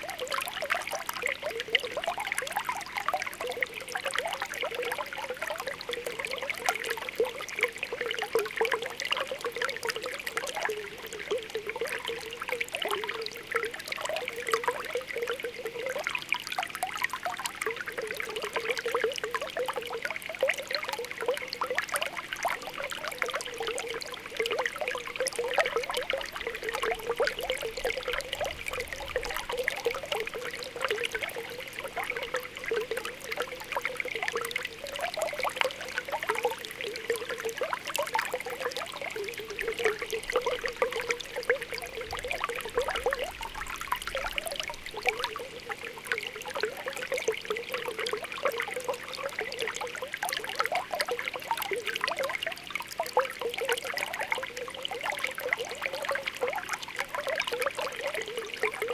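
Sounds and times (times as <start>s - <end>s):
spring water bubbling: 0.0s - 58.9s
water trickling: 0.0s - 58.9s.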